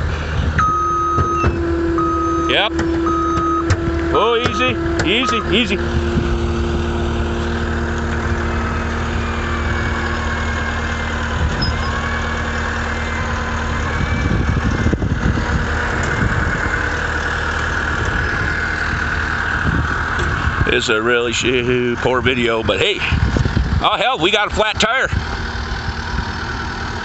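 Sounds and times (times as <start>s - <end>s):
heavy vehicle engine idling: 0.0s - 27.0s.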